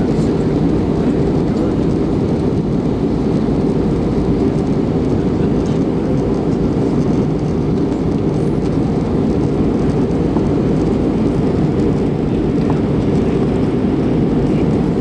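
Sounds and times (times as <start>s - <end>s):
jet engines and rushing air: 0.0s - 15.0s.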